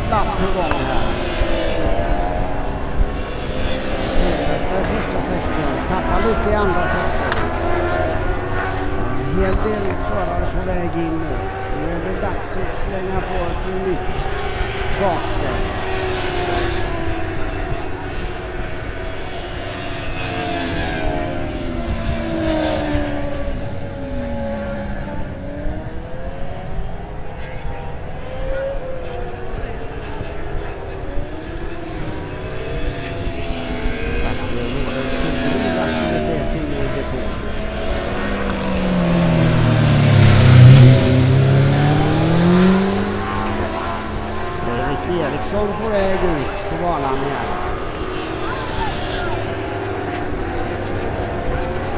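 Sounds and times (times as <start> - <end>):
racing motorcycles revving: 0.0 - 51.9.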